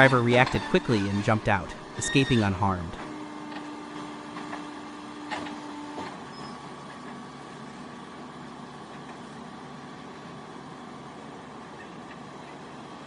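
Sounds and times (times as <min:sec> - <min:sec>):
heavy machinery engine: 0:00.0 - 0:13.0.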